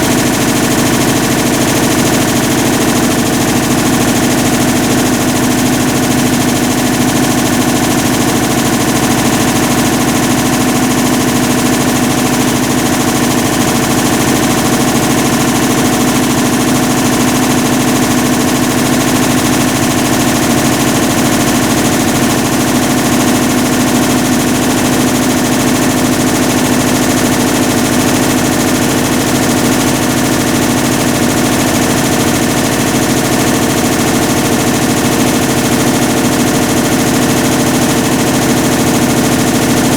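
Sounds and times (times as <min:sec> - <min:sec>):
washing machine rattling grind: 0:00.0 - 0:39.9.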